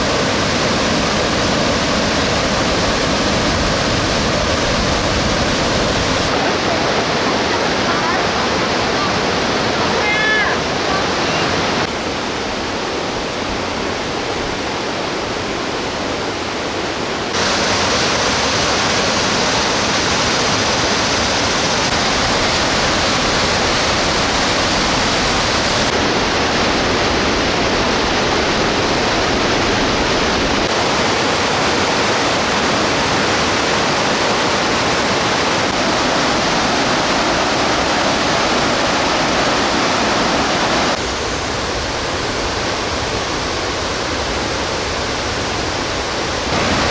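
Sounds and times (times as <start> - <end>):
stream water rushing over rocks: 0.0 - 46.9.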